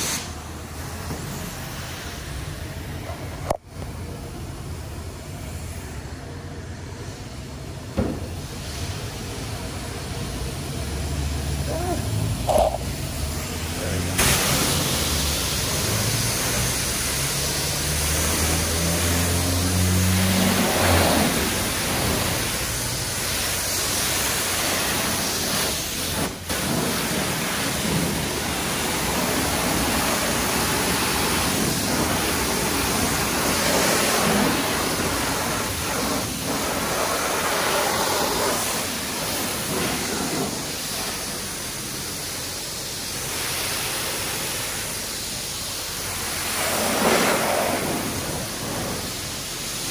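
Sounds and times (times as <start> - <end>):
high-pressure water spraying: 0.0 - 5.9, 7.0 - 49.9.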